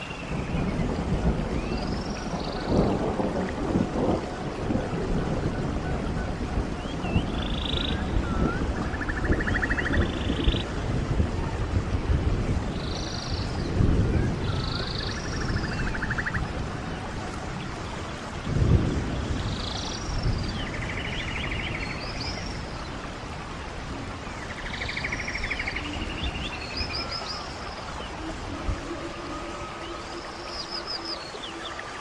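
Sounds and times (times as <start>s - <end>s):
stream running: 0.0s - 32.0s.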